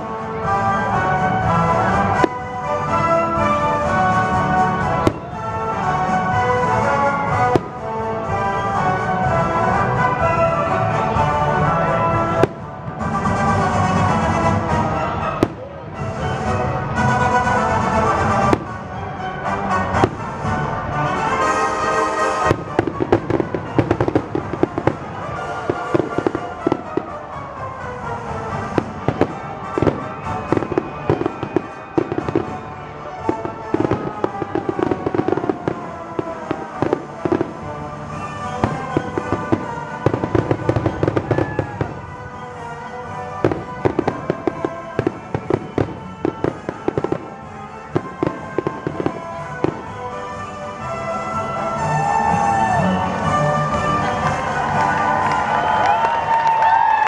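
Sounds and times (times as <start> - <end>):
fireworks bursting: 0.0 - 56.8
music: 0.0 - 57.0.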